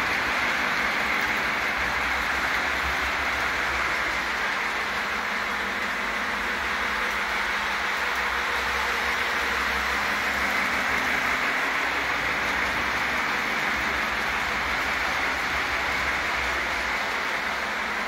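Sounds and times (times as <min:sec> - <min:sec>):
model train rolling on track: 0:00.0 - 0:18.0.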